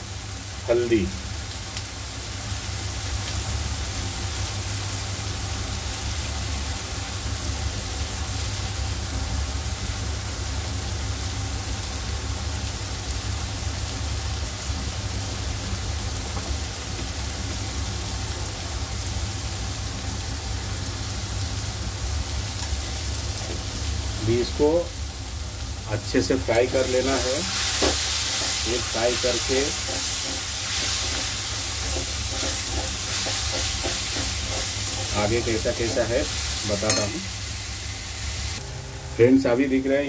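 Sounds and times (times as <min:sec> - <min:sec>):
onions sizzling in hot oil: 0:00.0 - 0:38.8.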